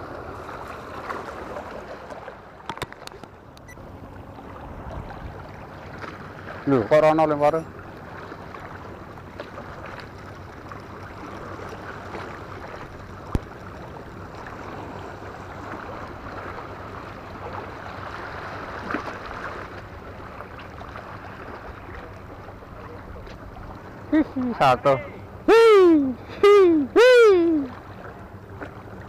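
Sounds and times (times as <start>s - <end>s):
sea water lapping: 0.0s - 29.0s.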